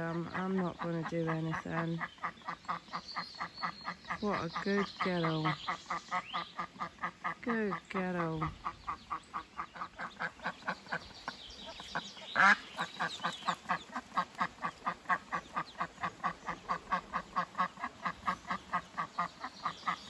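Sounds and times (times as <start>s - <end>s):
duck quacking softly: 0.0s - 20.0s.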